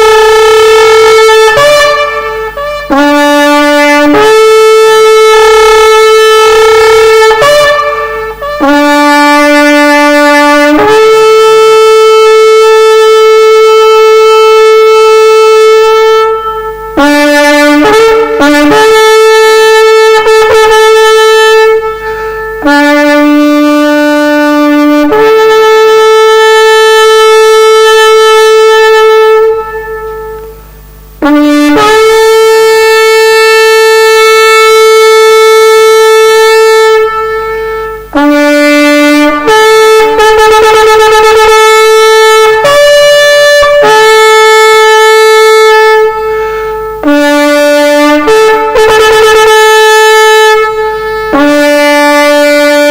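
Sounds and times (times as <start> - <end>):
two-pitch horn blasts: 0.0 - 52.9.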